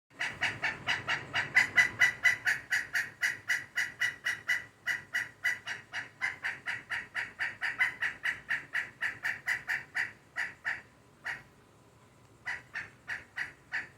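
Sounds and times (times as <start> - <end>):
woodpecker calling: 0.1 - 11.5, 12.4 - 13.9.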